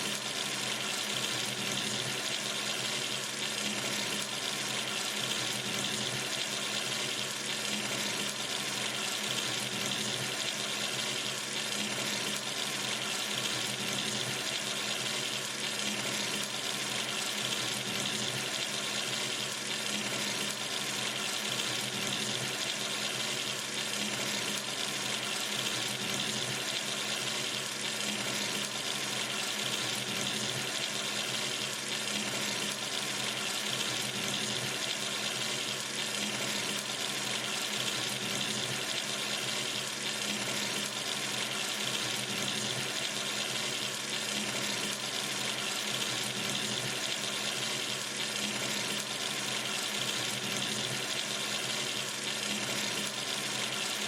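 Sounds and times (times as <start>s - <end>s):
water running from tap: 0.0s - 54.0s.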